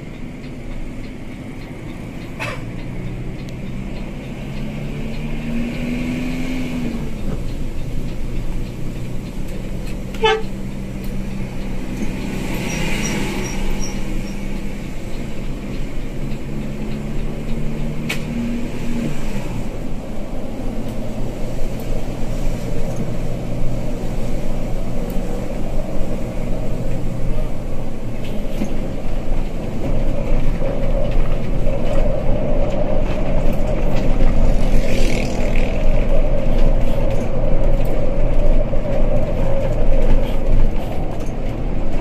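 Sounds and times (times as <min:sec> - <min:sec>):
bus engine running: 0:00.0 - 0:42.0.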